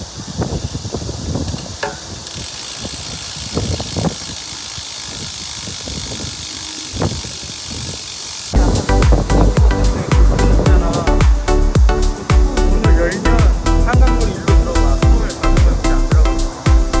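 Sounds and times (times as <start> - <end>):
bicycle tyre and wind rush: 0.0 - 17.0.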